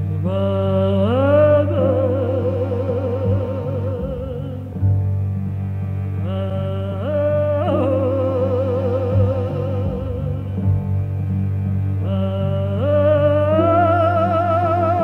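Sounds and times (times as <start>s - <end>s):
low bass drone: 0.0s - 15.0s.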